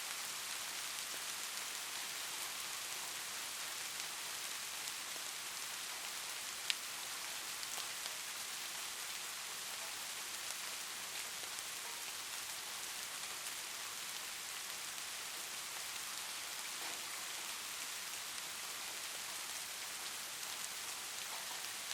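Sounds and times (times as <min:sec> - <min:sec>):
steady rain hiss: 0:00.0 - 0:21.9.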